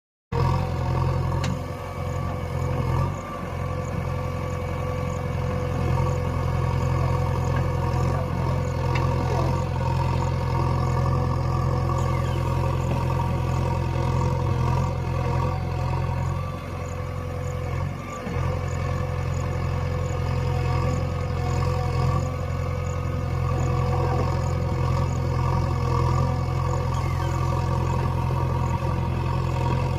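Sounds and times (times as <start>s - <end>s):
backhoe diesel engine running: 0.4s - 29.9s.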